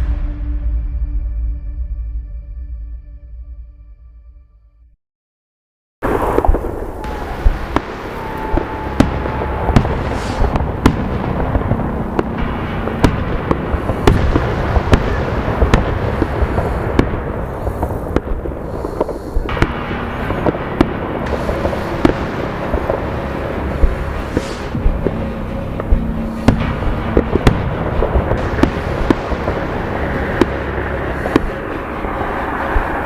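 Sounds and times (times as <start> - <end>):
fireworks bangs and crackling: 6.0 - 33.0.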